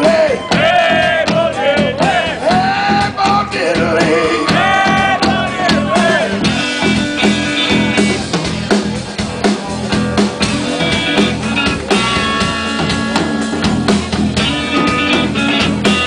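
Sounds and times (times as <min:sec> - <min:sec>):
drum kit beat: 0:00.0 - 0:16.0
electric guitars sustained notes: 0:03.0 - 0:16.0.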